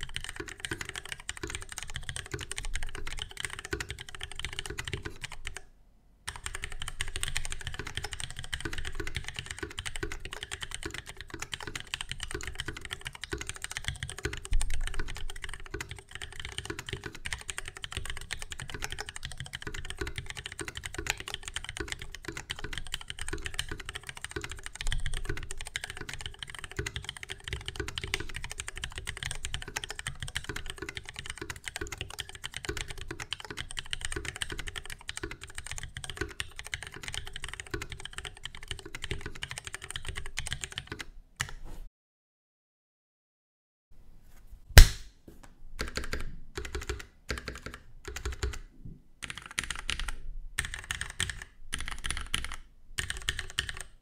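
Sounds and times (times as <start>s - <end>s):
mechanical keyboard typing: 0.0s - 5.6s, 6.3s - 41.5s, 45.8s - 54.0s.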